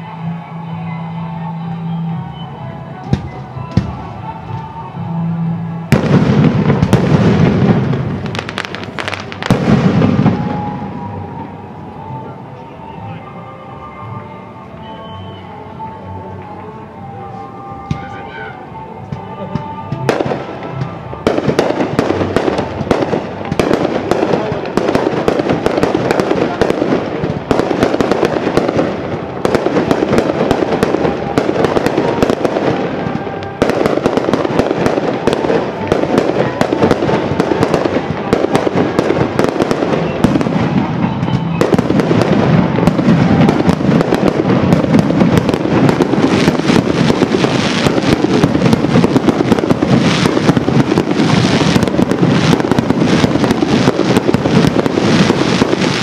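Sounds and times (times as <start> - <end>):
fireworks bursts and crackling: 0.0 - 13.3, 14.8 - 56.0.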